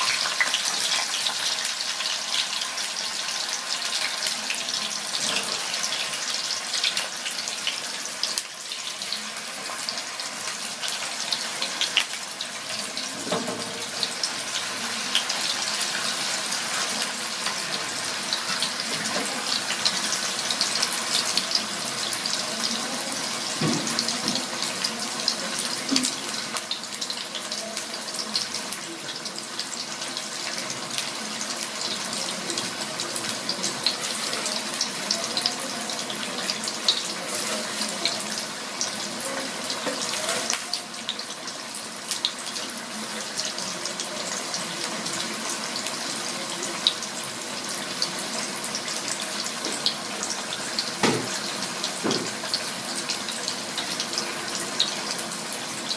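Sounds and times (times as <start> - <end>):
water running from tap into sink: 0.0 - 55.9.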